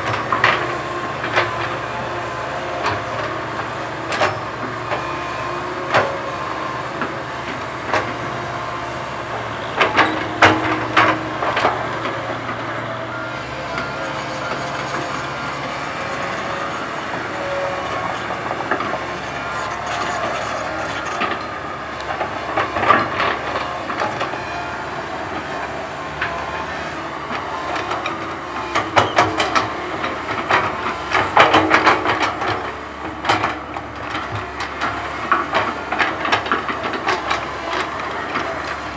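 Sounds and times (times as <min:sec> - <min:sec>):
excavator engine and hydraulics running: 0:00.0 - 0:38.9.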